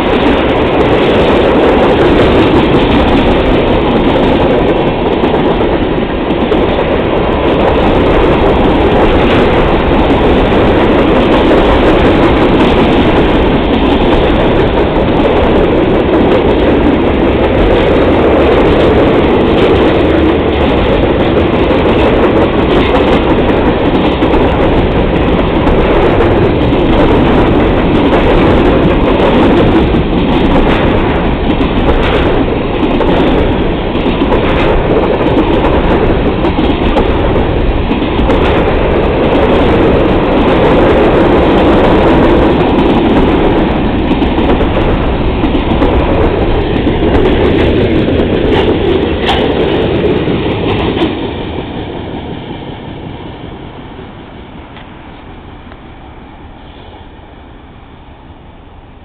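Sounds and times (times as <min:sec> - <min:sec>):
steel wheels on rail: 0:00.0 - 0:59.0.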